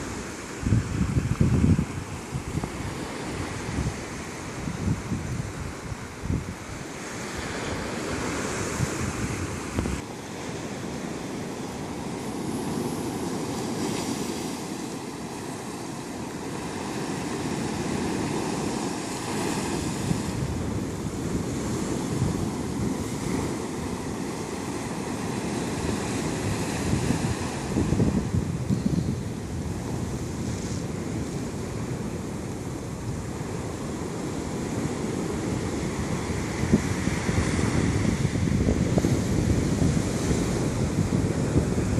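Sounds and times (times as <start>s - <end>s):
ocean surf breaking on rocks: 0.0s - 41.9s
wind on microphone: 0.0s - 41.9s.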